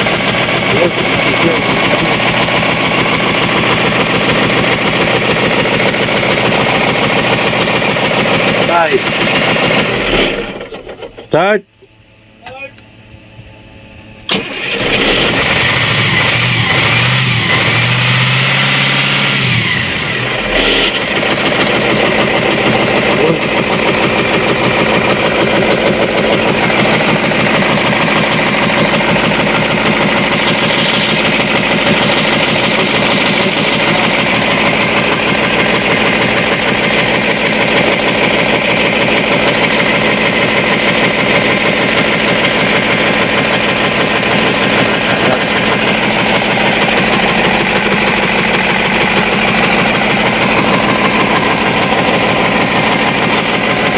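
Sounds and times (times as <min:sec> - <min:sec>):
diesel engine starting and running: 0:00.0 - 0:53.9.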